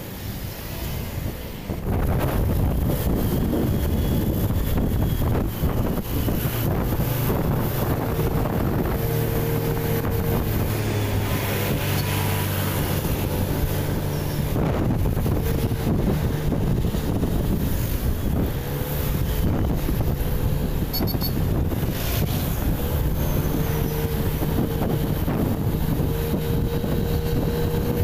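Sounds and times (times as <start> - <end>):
wind rushing over microphone: 0.0 - 28.0
small engine humming: 1.9 - 28.0.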